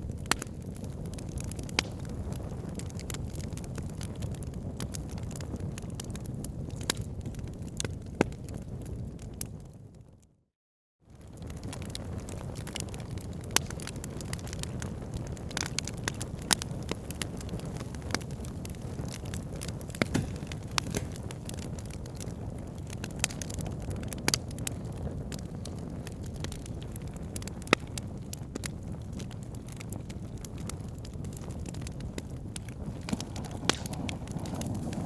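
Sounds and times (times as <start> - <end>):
wood fire burning: 0.0 - 9.8, 11.1 - 35.0.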